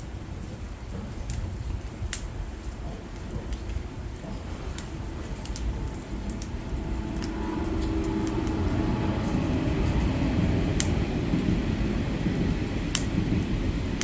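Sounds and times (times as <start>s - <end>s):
firewood burning low rumble: 0.0s - 14.0s
logs crackling and popping: 0.0s - 14.0s.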